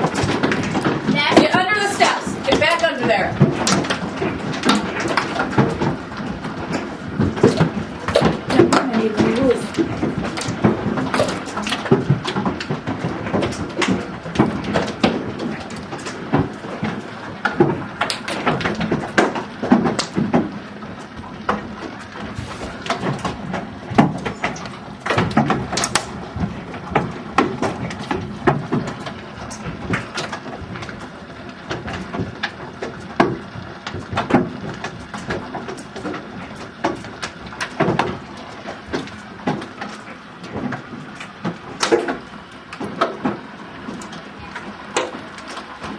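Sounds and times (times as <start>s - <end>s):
hailstones pelting hard surfaces: 0.0s - 45.9s.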